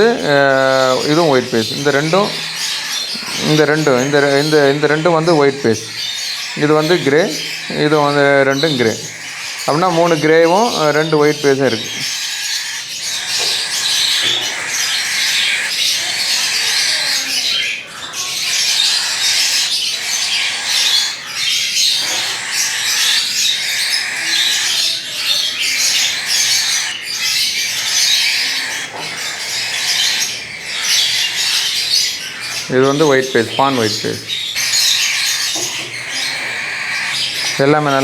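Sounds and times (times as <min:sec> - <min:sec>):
cockatiel chicks squawking: 0:00.0 - 0:38.0.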